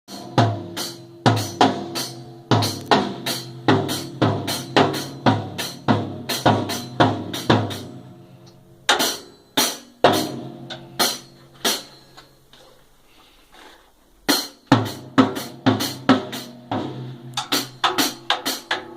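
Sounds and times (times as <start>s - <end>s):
child hitting drum kit: 0.1s - 8.0s, 8.9s - 11.9s, 14.3s - 18.9s.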